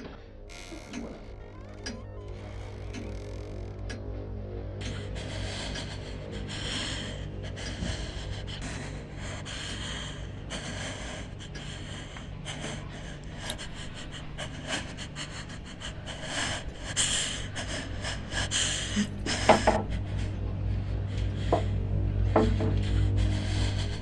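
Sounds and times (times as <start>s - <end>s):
low hum: 0.0s - 24.0s
woman breathing heavily: 4.8s - 24.0s.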